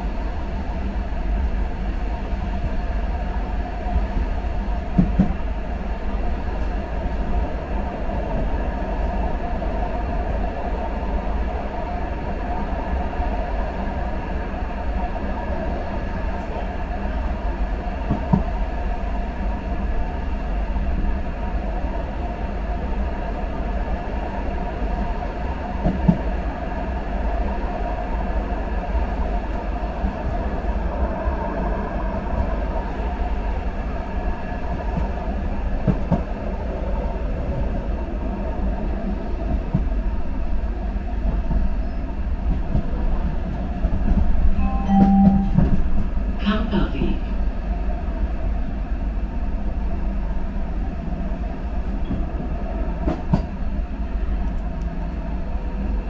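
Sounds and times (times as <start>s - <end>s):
subway train rumbling: 0.0s - 56.0s.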